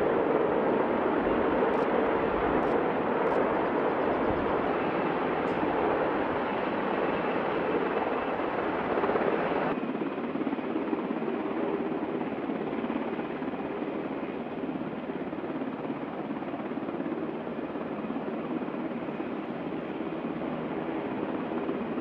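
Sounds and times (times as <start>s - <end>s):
distant helicopter rotor noise: 0.0s - 22.0s
helicopter rotors and engines: 0.0s - 22.0s.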